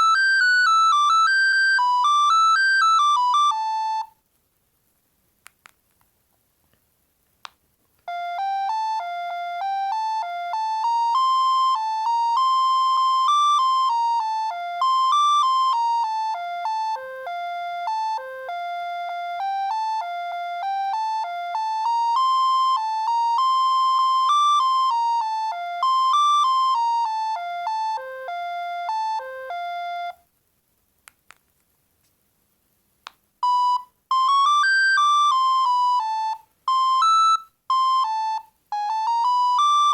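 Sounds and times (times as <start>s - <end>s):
electronic ringtone melody: 0.0s - 4.2s, 8.1s - 30.2s, 33.4s - 39.9s.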